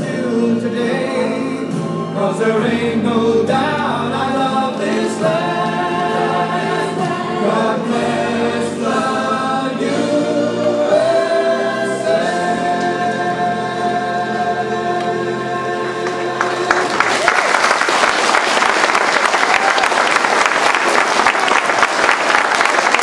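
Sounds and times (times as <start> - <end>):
choir singing long notes: 0.0 - 23.0.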